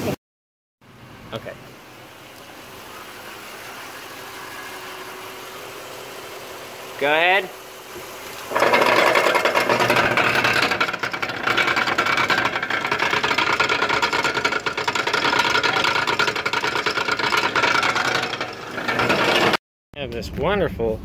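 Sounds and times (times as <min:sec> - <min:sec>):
car engine and driveline running: 0:01.0 - 0:19.6.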